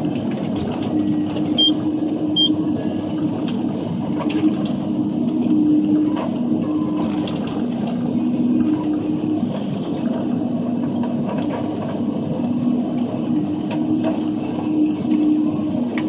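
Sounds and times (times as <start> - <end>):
machine engine and hydraulics hum: 0.0 - 16.0.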